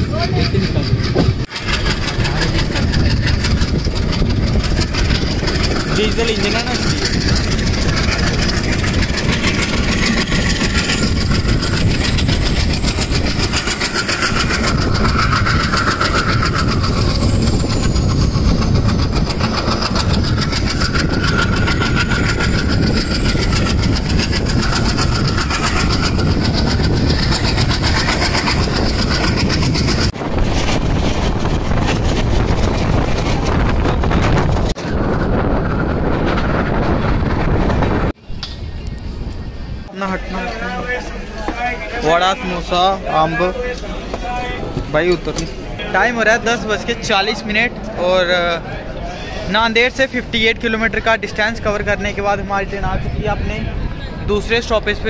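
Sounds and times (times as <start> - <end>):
diesel engines: 0.0 - 55.0
train wheel-and-rail noise: 0.0 - 55.0.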